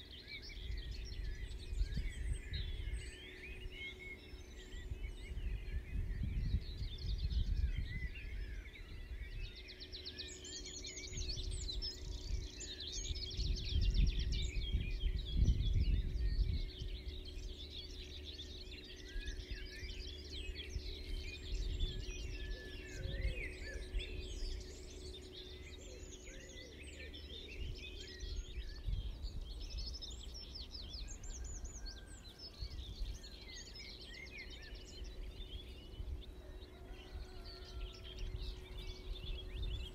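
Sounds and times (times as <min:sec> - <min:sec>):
faint steady hum: 0:00.0 - 0:36.8
songbirds singing and chirping: 0:00.0 - 0:39.9
wind rumbling on microphone: 0:00.0 - 0:39.9.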